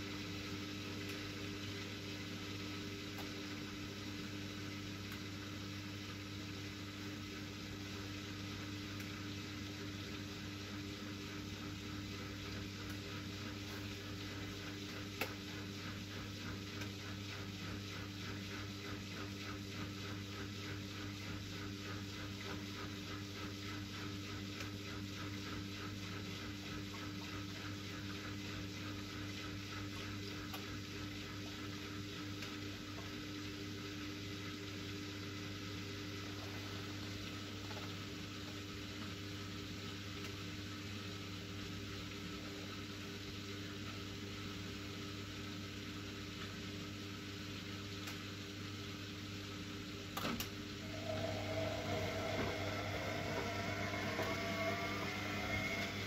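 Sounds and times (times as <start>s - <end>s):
washing machine hum: 0.0s - 56.0s.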